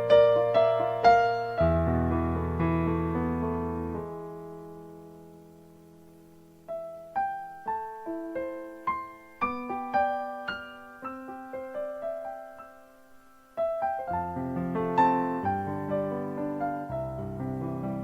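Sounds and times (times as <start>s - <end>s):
low piano chords: 0.0s - 18.0s
slow piano notes: 0.0s - 18.0s.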